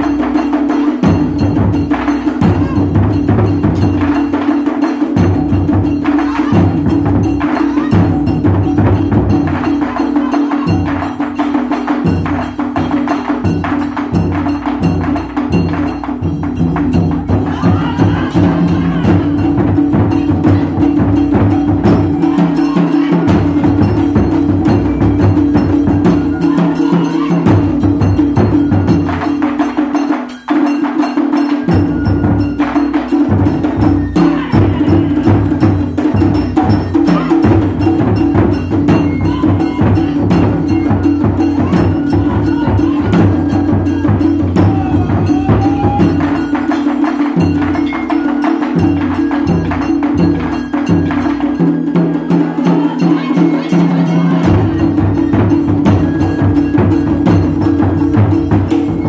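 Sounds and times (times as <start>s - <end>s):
large drums struck in fast rhythm: 0.0s - 59.0s.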